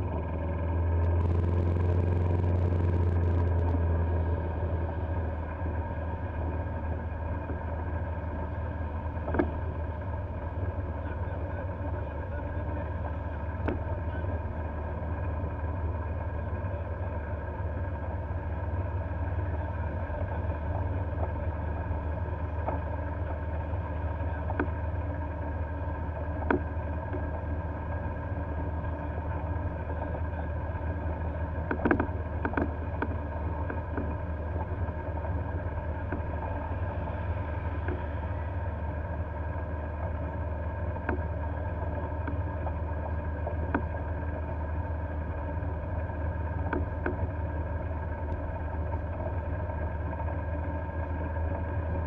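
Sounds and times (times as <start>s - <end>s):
golf cart humming: 0.0s - 52.0s.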